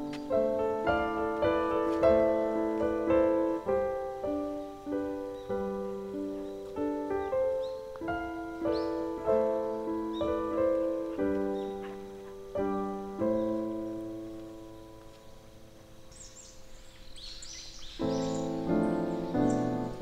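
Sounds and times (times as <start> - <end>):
birds chirping faintly: 0.0 - 20.0
piano chords: 0.0 - 20.0.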